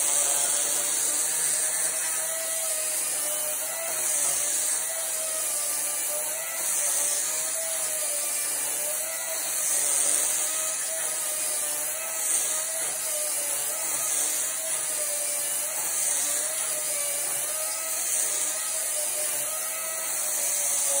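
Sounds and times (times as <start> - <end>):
chainsaw motor whine: 0.0 - 21.0.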